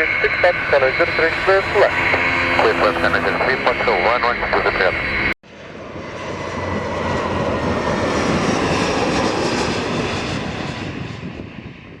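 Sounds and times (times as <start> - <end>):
airliner flying past: 0.0 - 12.0.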